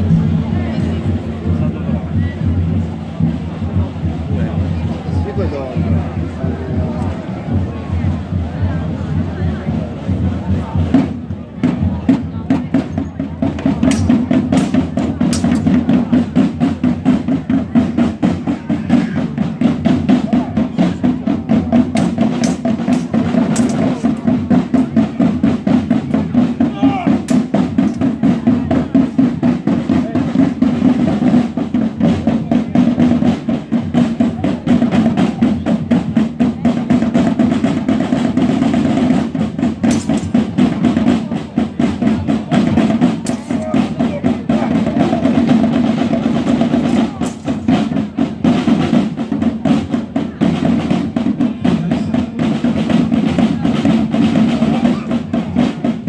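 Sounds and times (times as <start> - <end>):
deep drum strokes: 0.0 - 56.0
snare drum roll: 0.0 - 56.0.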